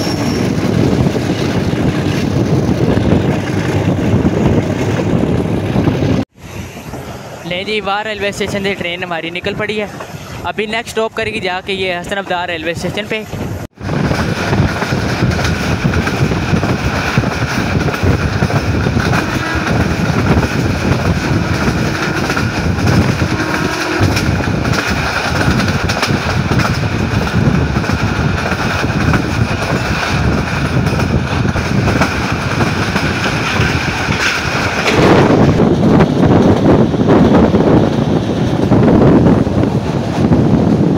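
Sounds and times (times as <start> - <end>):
wind noise on microphone: 0.0 - 7.0, 13.3 - 40.9
train wheels rattling on rails: 0.0 - 40.9.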